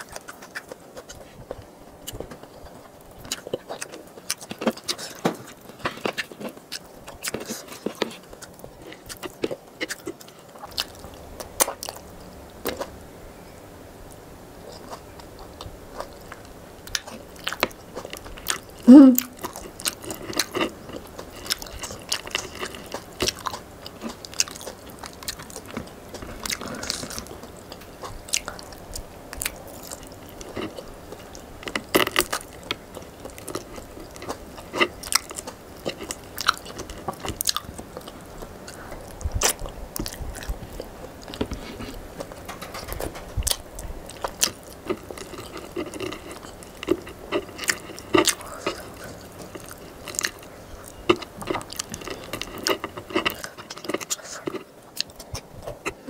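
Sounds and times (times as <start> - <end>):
person chewing food: 0.0 - 13.0, 14.1 - 56.0.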